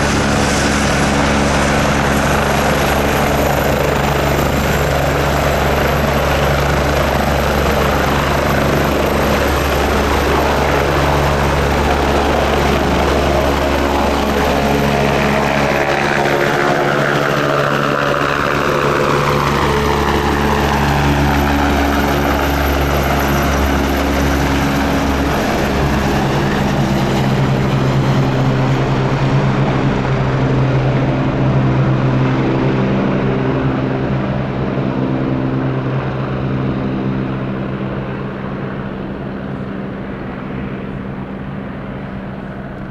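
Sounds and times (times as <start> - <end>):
helicopter rotor and turbine: 0.0 - 42.9.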